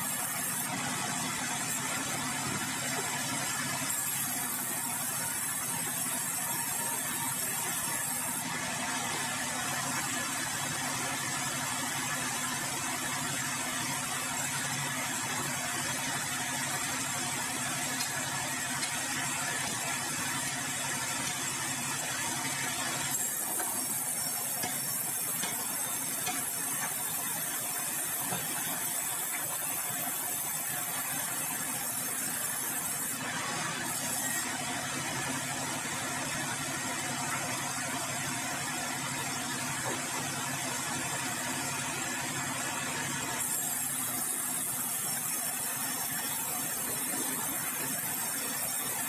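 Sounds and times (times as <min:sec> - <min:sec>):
sawmill machinery drone: 0:00.0 - 0:49.0.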